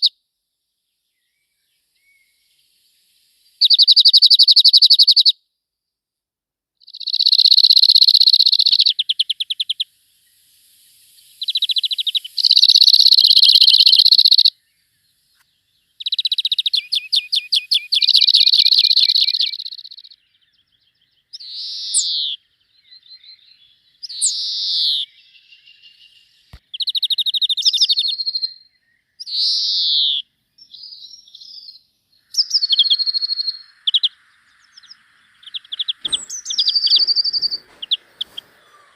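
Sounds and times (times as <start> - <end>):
songbirds singing: 0.0 - 5.4, 6.8 - 38.9.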